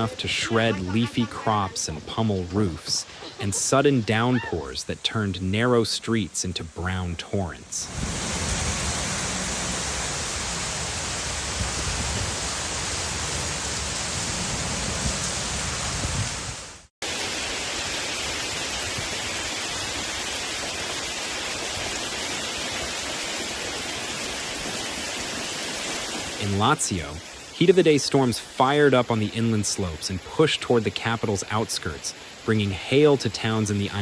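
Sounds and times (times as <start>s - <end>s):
heavy storm downpour: 0.0s - 6.9s, 7.8s - 34.0s.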